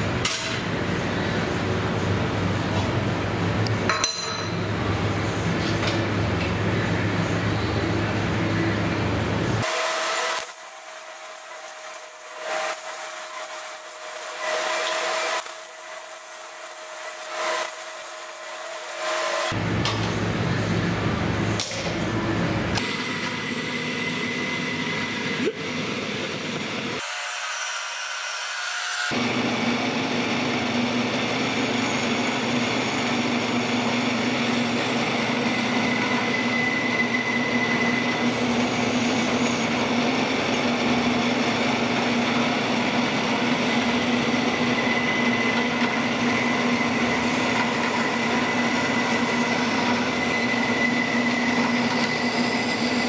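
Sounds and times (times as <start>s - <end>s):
band saw cutting metal: 9.6s - 53.0s.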